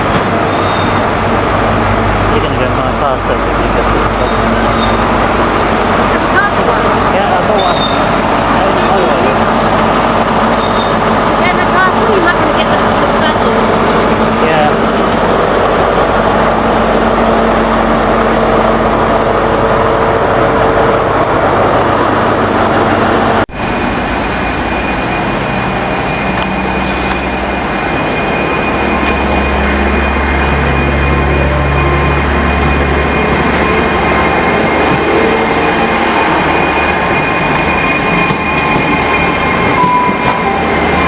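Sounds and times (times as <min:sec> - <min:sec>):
diesel train engine drone: 0:00.0 - 0:41.0.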